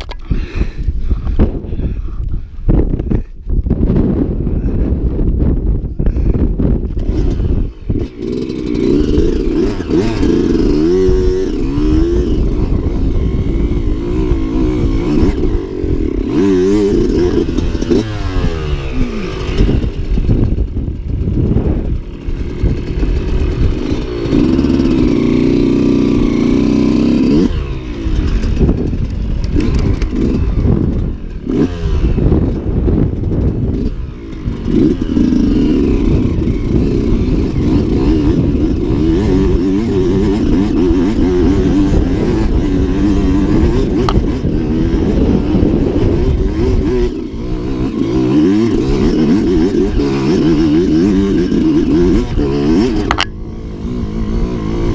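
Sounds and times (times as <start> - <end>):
dirt bike engine revving: 6.1 - 54.9.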